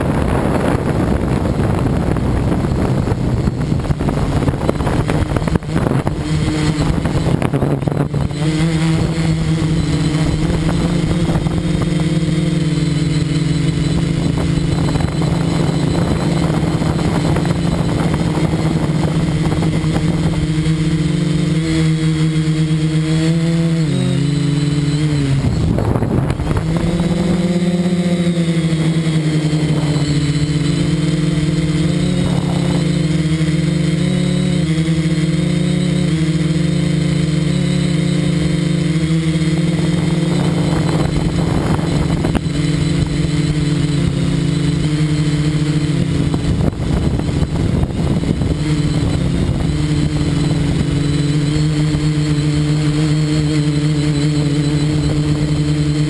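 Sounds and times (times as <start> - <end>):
drone motors and propellers humming: 0.0 - 56.0.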